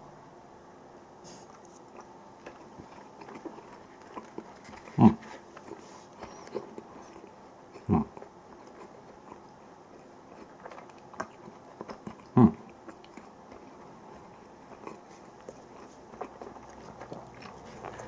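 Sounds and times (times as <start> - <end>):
person chewing: 1.3 - 18.0.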